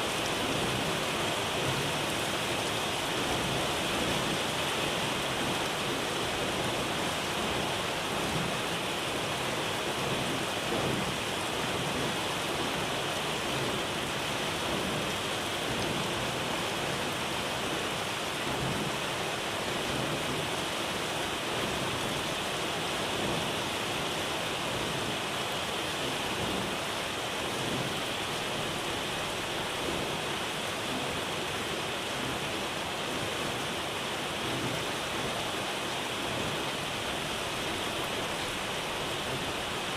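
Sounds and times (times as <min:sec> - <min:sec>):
heavy rain on sea surface: 0:00.0 - 0:39.9.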